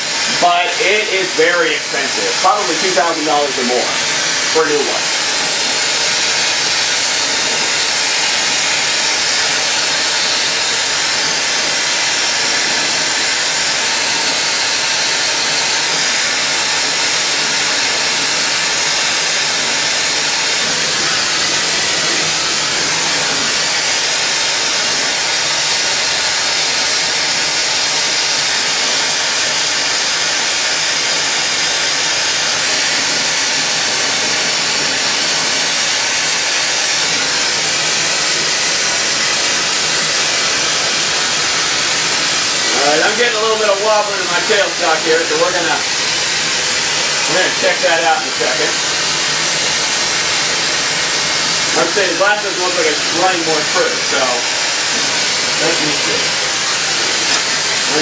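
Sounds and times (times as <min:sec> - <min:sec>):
gas torch hissing: 0:00.0 - 0:58.0.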